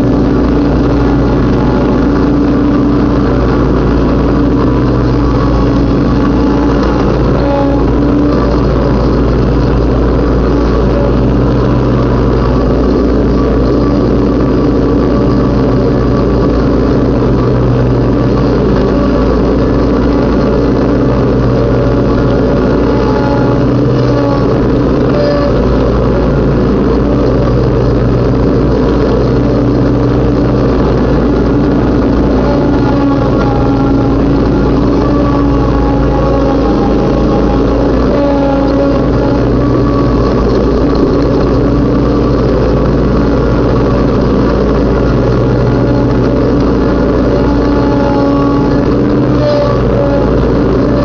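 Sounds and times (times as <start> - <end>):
riding lawn mower engine: 0.0 - 51.0.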